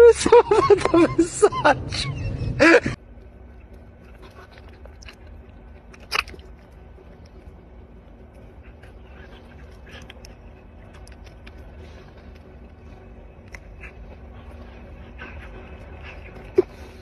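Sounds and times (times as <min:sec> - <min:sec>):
low hum: 0:00.0 - 0:17.0
animal chewing and smacking: 0:03.1 - 0:17.0.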